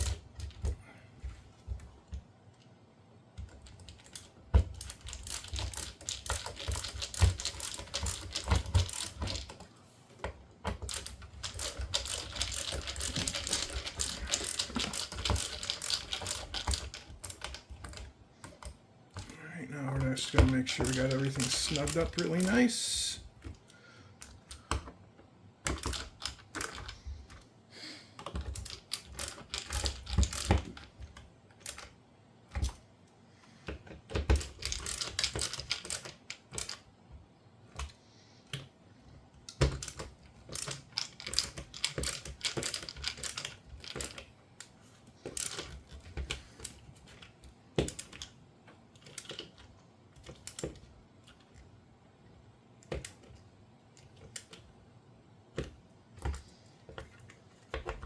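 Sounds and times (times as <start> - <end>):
hand tool clicking on plastic parts: 0.0 - 2.7, 3.4 - 22.7, 23.4 - 27.5, 28.2 - 32.8, 33.6 - 36.9, 39.4 - 51.6, 52.8 - 54.7, 55.6 - 58.0.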